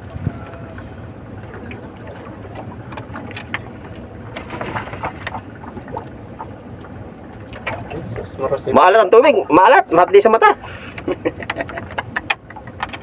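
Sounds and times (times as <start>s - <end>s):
boat low rumble: 0.0s - 13.0s.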